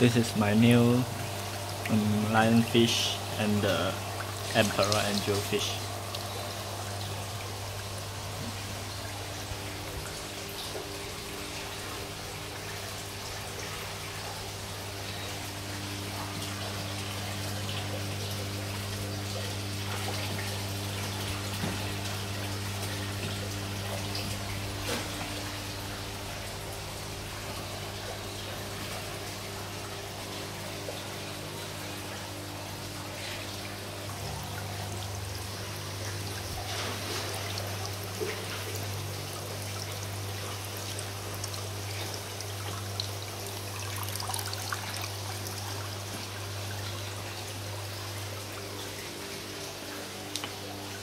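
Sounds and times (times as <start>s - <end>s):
steady low hum: 0.0s - 51.0s
water trickling into a basin: 0.0s - 51.0s.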